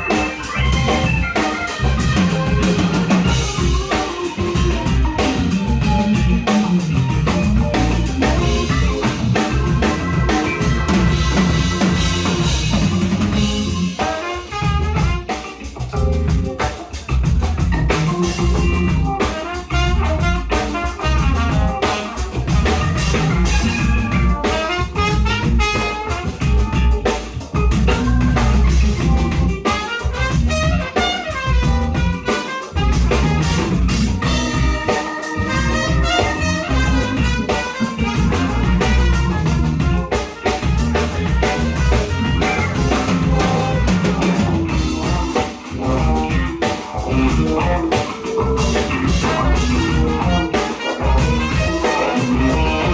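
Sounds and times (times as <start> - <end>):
busy drum kit: 0.0 - 52.9
soul-jazz band playing: 0.0 - 52.9.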